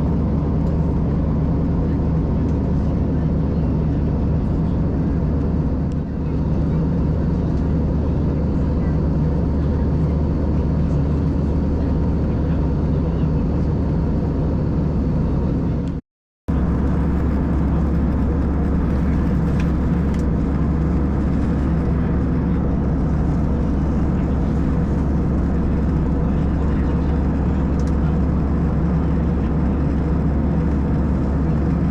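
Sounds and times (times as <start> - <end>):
airplane cabin drone: 0.0 - 31.9.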